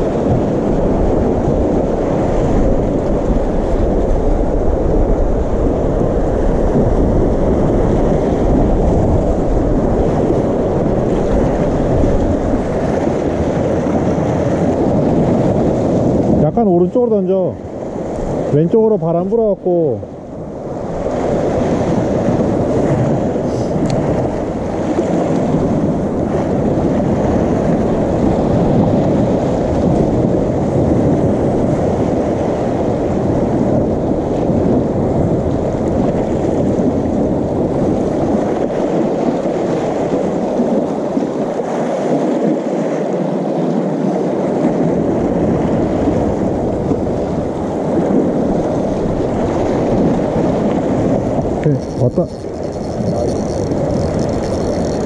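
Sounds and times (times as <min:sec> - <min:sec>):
sea washing against rocks: 0:00.0 - 0:55.0
wind rushing on microphone: 0:00.0 - 0:55.0.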